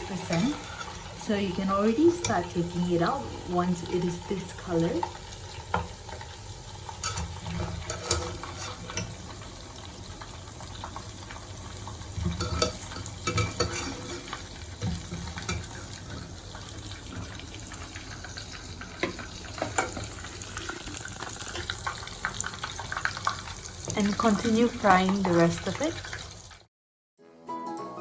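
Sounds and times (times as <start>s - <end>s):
hot oil sizzling: 0.0s - 26.7s.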